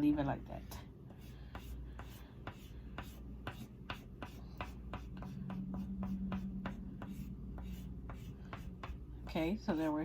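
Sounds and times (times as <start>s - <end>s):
oil pastel scratching on paper: 1.1s - 10.0s.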